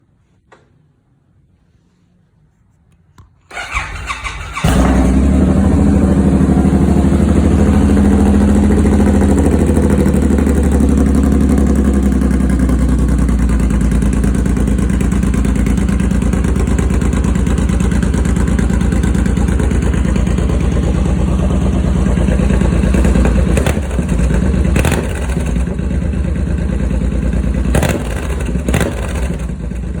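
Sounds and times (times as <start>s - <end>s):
motorcycle engine idling loudly: 4.3s - 30.0s.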